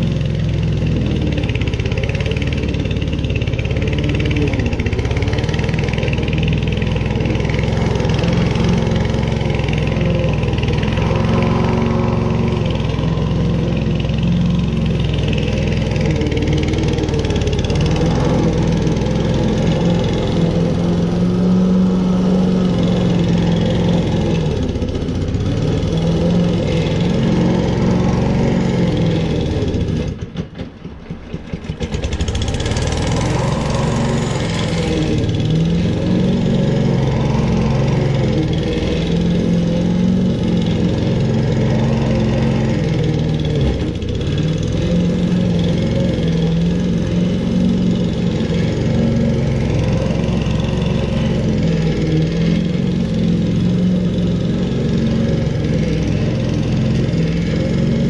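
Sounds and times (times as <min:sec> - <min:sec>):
petrol lawn mower running: 0:00.0 - 0:58.0.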